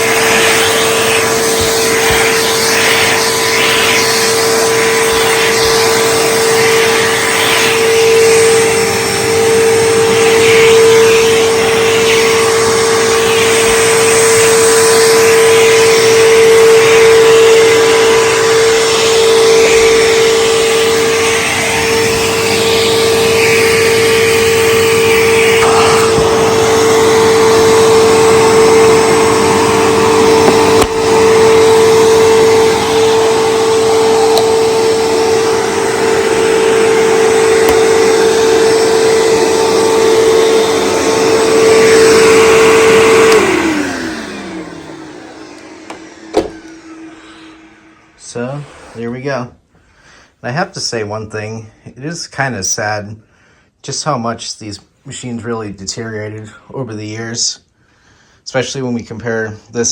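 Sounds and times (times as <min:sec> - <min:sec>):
vacuum cleaner running: 0:00.0 - 0:51.8, 0:53.6 - 0:59.9.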